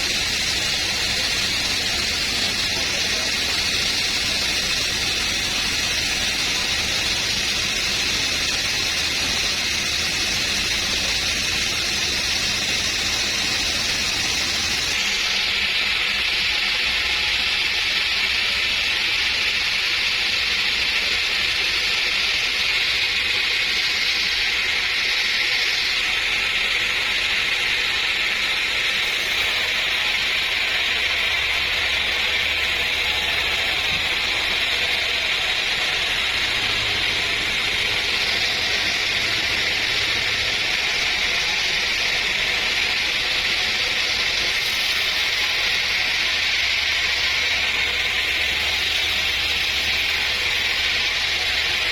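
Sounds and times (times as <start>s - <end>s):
sawmill saw cutting timber: 0.0s - 51.9s.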